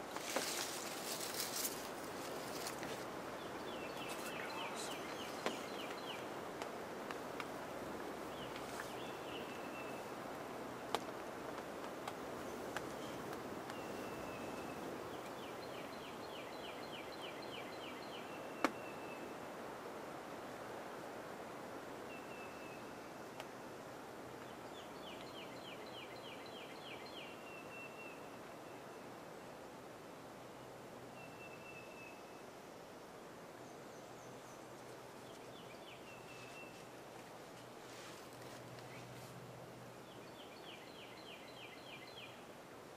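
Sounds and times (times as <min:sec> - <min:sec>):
songbird singing: 0:00.0 - 0:20.6, 0:21.9 - 0:29.5, 0:30.4 - 0:42.9
background hiss: 0:00.0 - 0:42.9.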